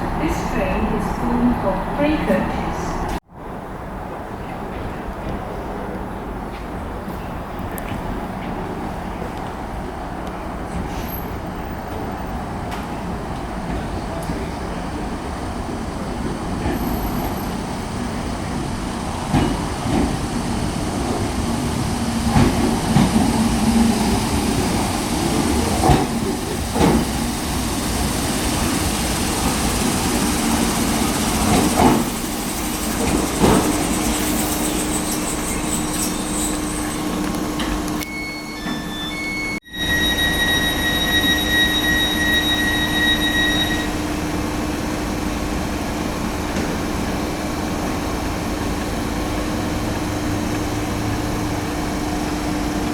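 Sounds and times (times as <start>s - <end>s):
train rumbling: 0.0s - 52.9s.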